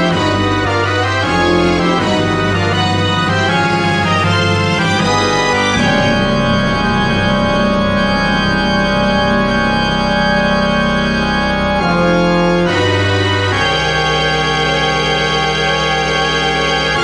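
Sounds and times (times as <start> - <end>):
sustained organ chords: 0.0 - 17.0.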